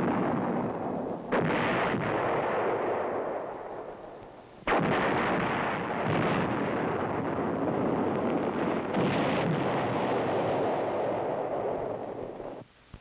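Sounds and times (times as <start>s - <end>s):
howitzer firing: 0.0s - 12.6s.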